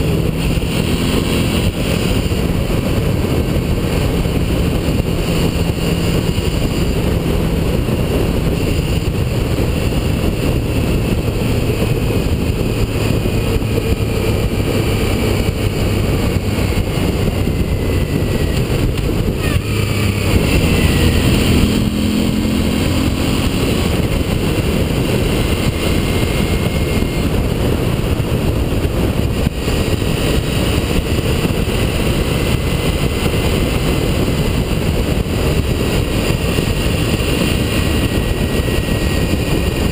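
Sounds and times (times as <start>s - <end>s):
motorcycle engine drone: 0.0s - 39.9s
wind buffeting microphone: 0.0s - 39.9s.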